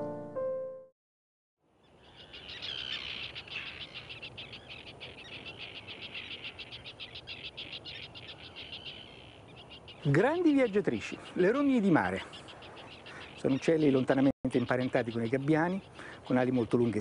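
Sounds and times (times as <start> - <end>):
terns calling: 1.6 - 17.0.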